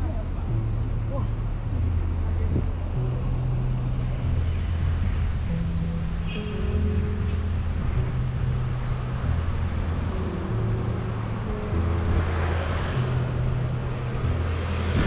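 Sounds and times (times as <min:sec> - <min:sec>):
low synth notes: 0:00.0 - 0:15.0.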